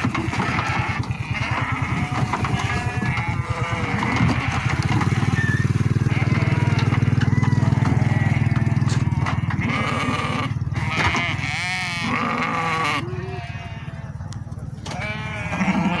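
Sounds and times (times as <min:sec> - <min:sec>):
sheep bleating: 0:00.0 - 0:14.2, 0:14.9 - 0:16.0
low engine hum: 0:00.8 - 0:15.6.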